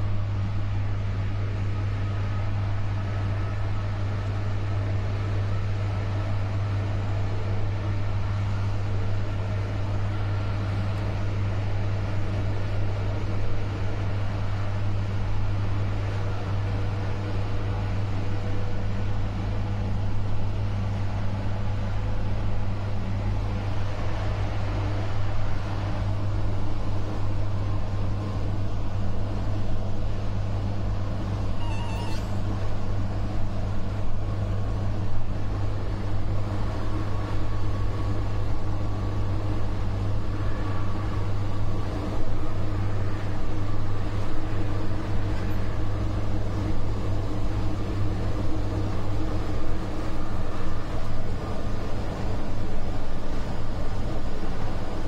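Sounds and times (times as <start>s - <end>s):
deep electric locomotive hum: 0.0s - 55.0s.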